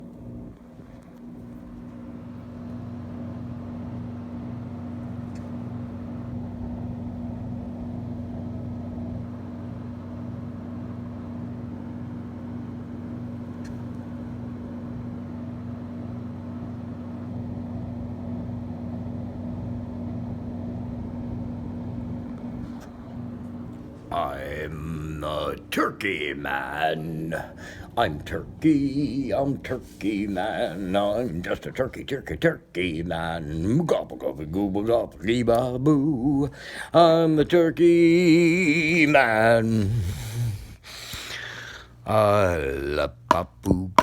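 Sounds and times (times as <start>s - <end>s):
motor humming: 0.0s - 44.0s.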